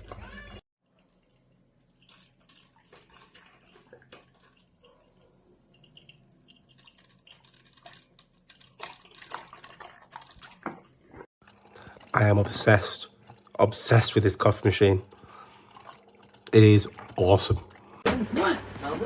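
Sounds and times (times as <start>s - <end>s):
coffee dripping into carafe: 0.9s - 18.0s.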